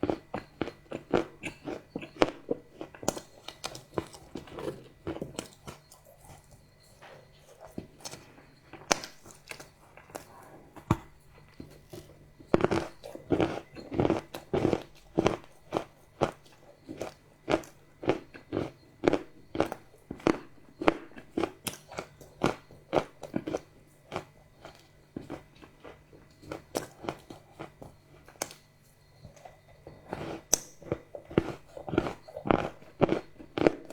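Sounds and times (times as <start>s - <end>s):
chocolate crunching and chewing: 0.0s - 33.9s.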